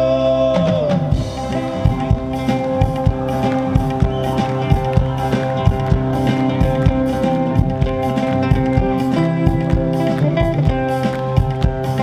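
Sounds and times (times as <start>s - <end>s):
bass guitar: 0.0s - 12.0s
drum kit: 0.0s - 12.0s
guitar holding notes: 1.1s - 12.0s.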